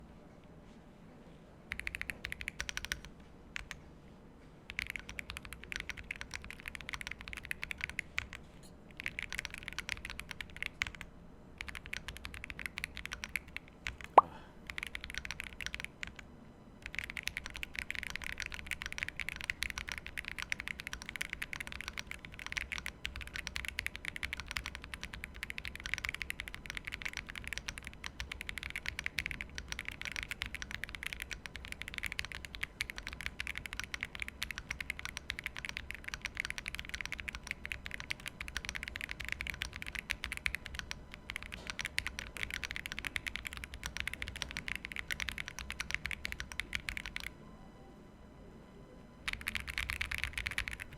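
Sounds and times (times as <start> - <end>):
mechanical keyboard typing: 1.7 - 3.8, 4.7 - 47.3, 49.3 - 50.9.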